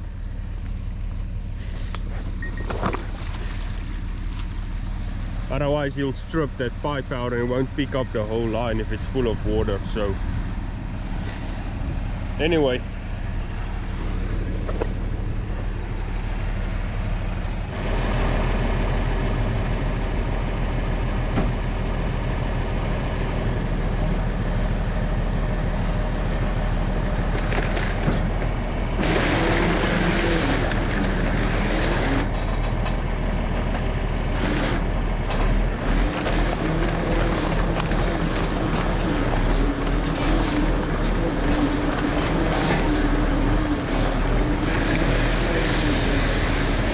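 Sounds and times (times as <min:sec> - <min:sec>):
farm machine engine running: 0:00.0 - 0:46.9.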